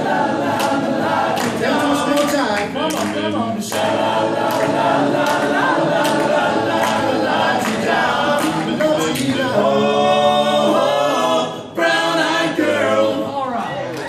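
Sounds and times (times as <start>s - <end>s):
male quartet singing in harmony: 0.0s - 13.3s.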